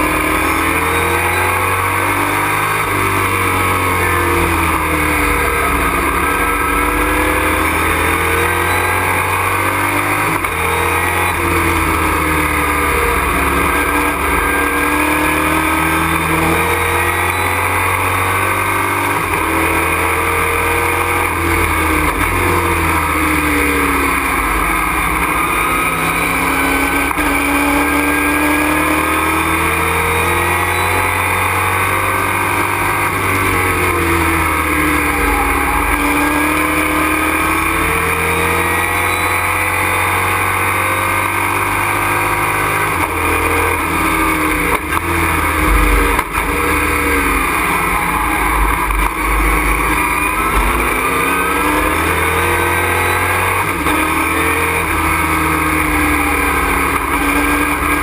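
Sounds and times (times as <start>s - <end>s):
race truck engine revving: 0.0s - 58.0s.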